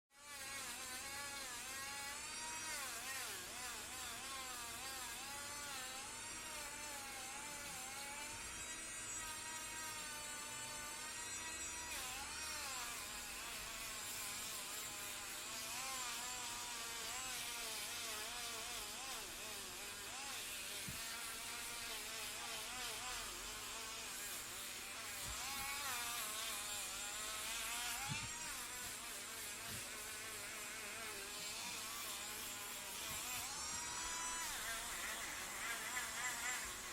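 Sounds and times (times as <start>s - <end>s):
electric nail drill whining: 0.1s - 36.9s.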